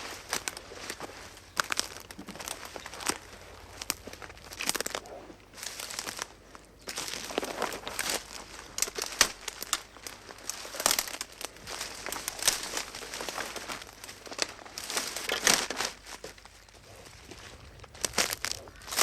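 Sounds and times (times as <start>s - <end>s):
footsteps through rustling undergrowth: 0.0s - 19.0s.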